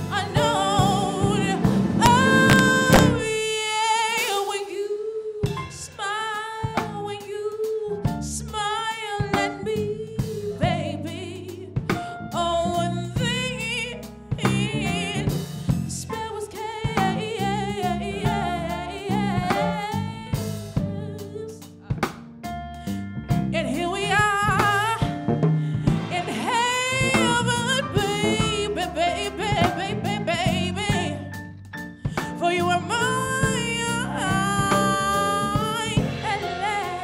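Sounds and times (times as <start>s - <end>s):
woman singing soulfully: 0.0s - 22.0s, 23.4s - 37.0s
drum kit: 0.0s - 37.0s.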